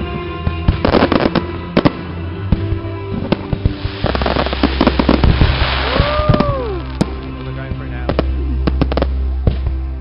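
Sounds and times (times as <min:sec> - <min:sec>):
fireworks bangs and crackles: 0:00.0 - 0:10.0
music: 0:00.0 - 0:10.0.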